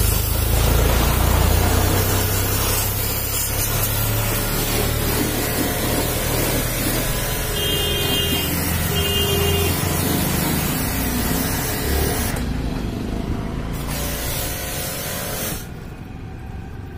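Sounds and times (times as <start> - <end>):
pressure washer spray hissing: 0.0 - 12.4, 13.8 - 15.8.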